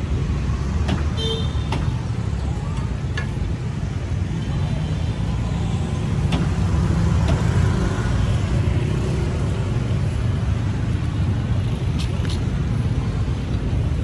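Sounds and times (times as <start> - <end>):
passing vehicle engines rumbling: 0.0 - 14.0.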